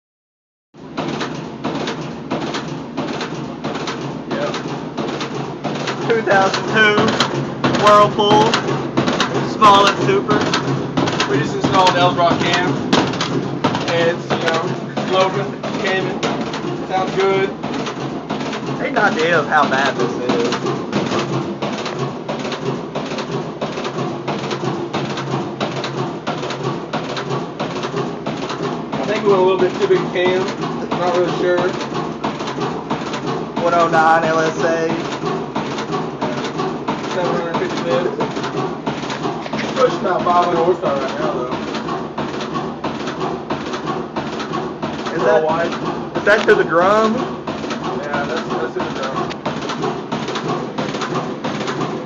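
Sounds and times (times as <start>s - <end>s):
steady hum: 0.8s - 52.0s
washing machine swishing: 0.8s - 52.0s.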